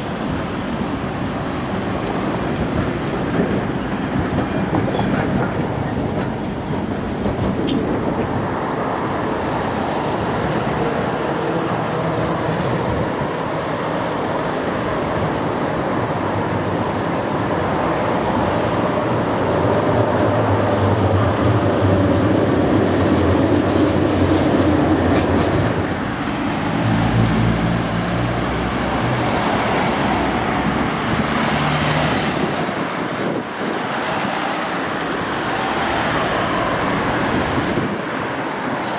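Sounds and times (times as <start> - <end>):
tram wheels rumbling on rail: 0.0 - 38.9.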